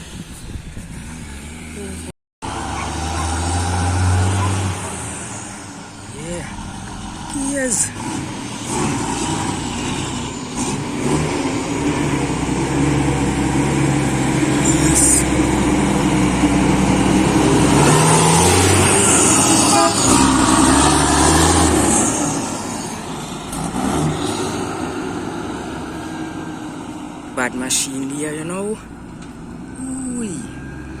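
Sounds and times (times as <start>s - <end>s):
truck diesel engine pulling hard: 0.0s - 31.0s.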